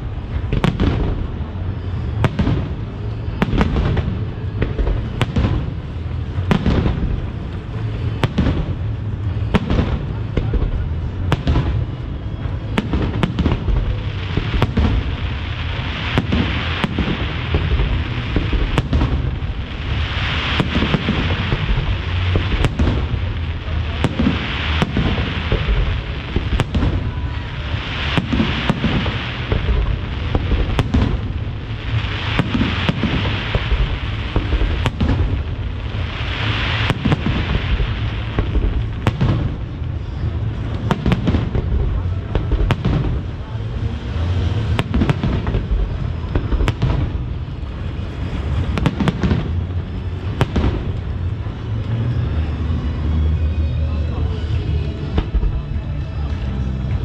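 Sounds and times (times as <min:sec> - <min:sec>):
firework crackling: 0:00.0 - 0:57.0
low rumble: 0:00.0 - 0:57.0.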